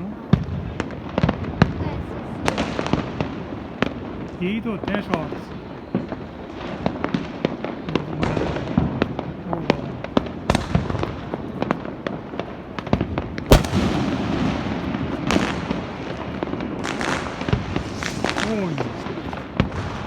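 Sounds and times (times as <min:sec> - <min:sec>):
firecrackers crackling: 0:00.0 - 0:20.0
fireworks bangs and pops: 0:00.0 - 0:20.0.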